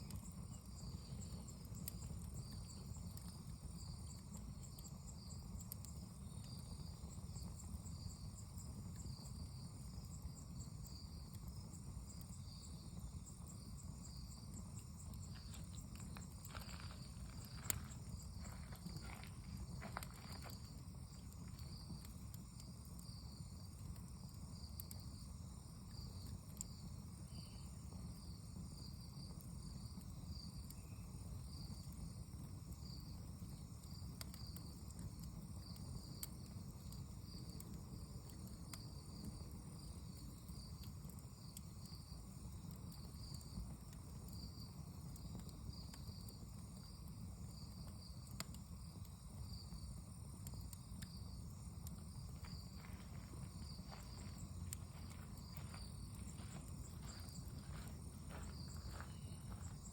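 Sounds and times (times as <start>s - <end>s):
insects chirping: 0.0s - 59.9s
wood fire crackling: 0.0s - 59.9s.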